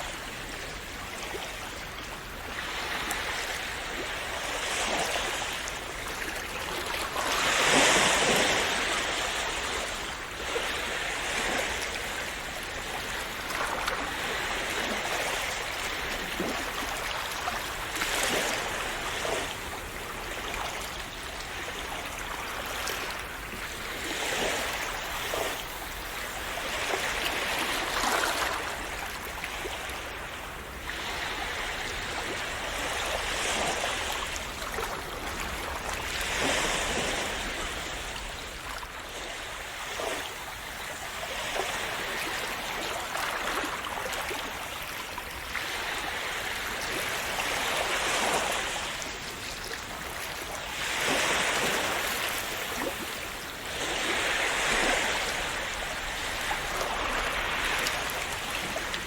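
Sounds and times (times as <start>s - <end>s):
gentle sea waves on shore: 0.0s - 59.0s.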